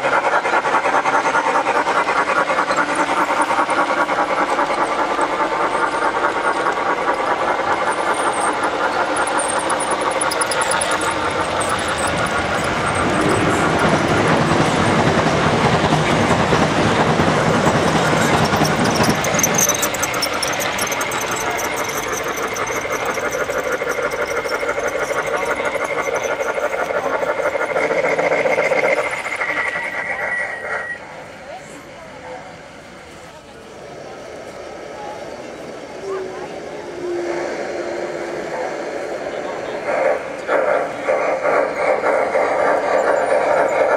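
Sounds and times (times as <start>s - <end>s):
model train running on track: 0.0s - 43.9s.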